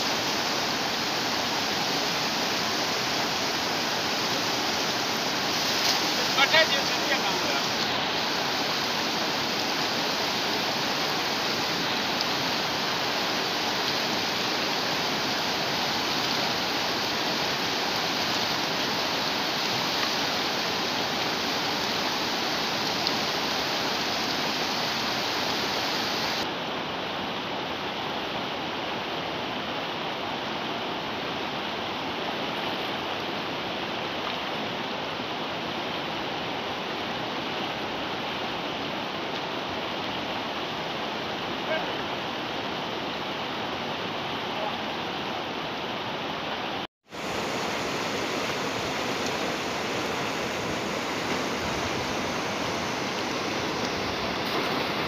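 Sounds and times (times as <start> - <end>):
river rushing over boulders: 0.0 - 55.0.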